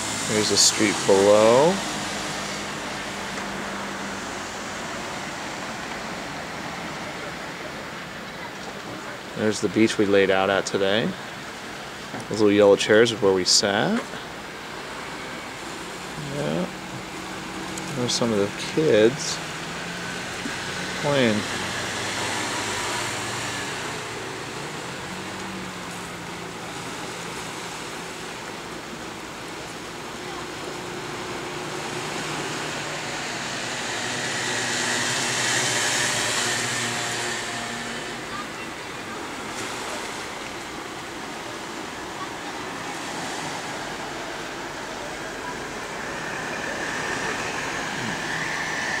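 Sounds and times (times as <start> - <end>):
vehicle engine passing: 0.0 - 7.7, 14.7 - 49.0
higher engine tone: 0.0 - 11.9, 12.7 - 49.0
outdoor background noise: 0.0 - 49.0
street traffic noise: 0.0 - 49.0.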